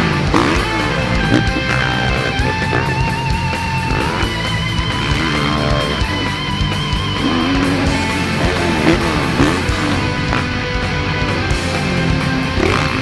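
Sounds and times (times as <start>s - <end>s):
hard rock music: 0.0s - 13.0s
lead guitar long wavering notes: 0.0s - 13.0s
steady drum beat: 0.0s - 13.0s.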